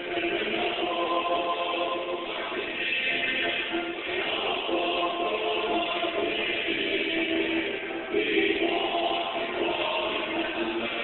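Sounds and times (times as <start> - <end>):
soundtrack music with held notes: 0.0 - 11.0.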